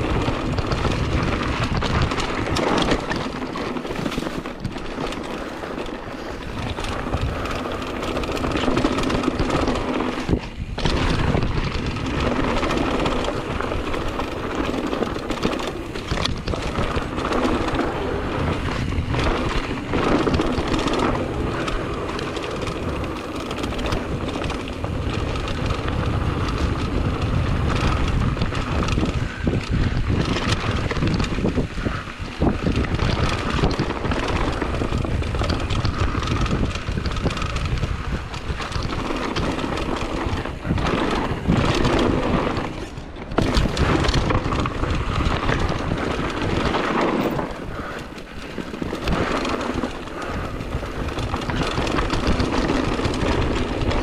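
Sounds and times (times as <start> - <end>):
bike rattling over bumps: 0.0 - 54.0
bike tyres rolling over dirt and stones: 0.0 - 54.0
wind buffeting microphone: 0.0 - 54.0.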